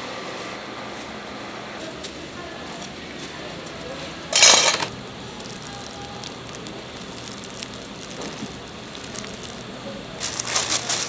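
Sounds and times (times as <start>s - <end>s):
loud crackling rustle: 1.8s - 11.0s.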